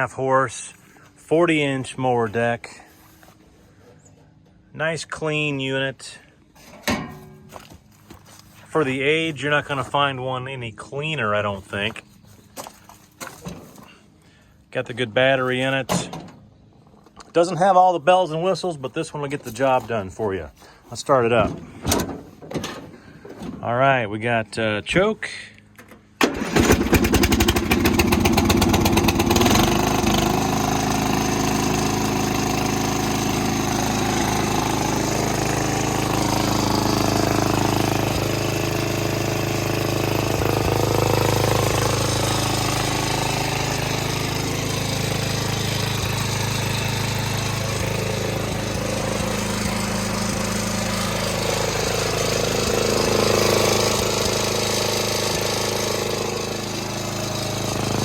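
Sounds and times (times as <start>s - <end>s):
lawn mower engine running: 0.0s - 23.7s, 25.5s - 58.0s.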